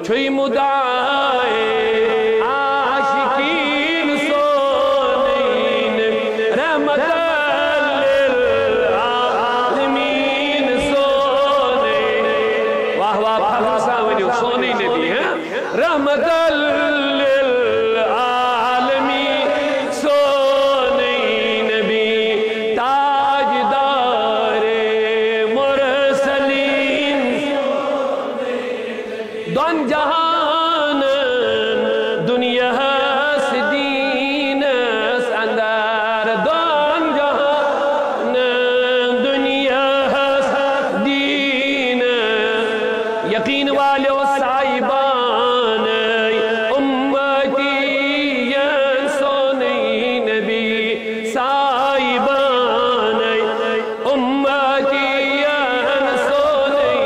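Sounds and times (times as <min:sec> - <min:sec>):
man chanting devotional melody: 0:00.0 - 0:57.0.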